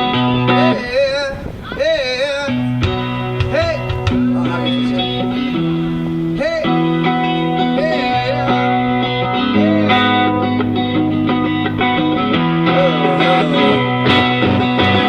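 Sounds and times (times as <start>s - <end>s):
amplified guitar chords: 0.0s - 15.0s.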